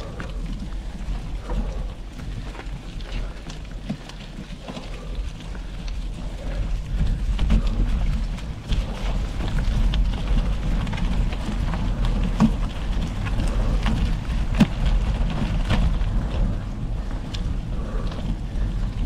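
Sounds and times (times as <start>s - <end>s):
bike rattling: 0.0s - 19.0s
tyres crunching on gravel: 0.0s - 19.0s
wind on microphone: 0.0s - 19.0s.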